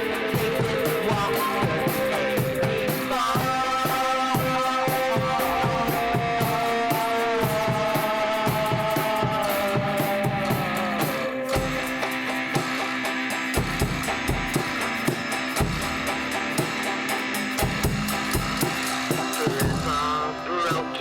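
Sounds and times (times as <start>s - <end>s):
drum kit beat: 0.0s - 21.0s
electric guitar: 0.0s - 21.0s.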